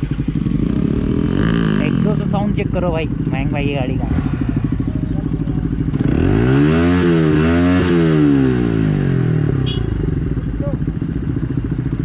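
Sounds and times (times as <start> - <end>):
motorcycle idling and revving: 0.0 - 12.0.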